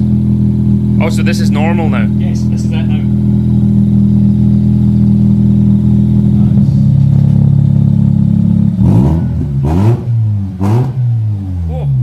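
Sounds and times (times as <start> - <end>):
rotary engine idling and revving: 0.0 - 12.0.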